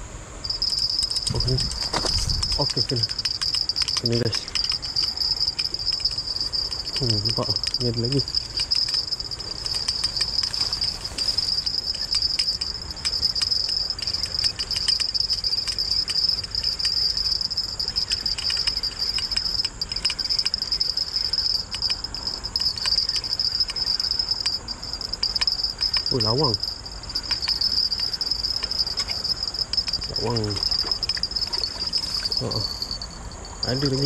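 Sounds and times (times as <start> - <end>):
insect chorus droning: 0.0 - 34.0.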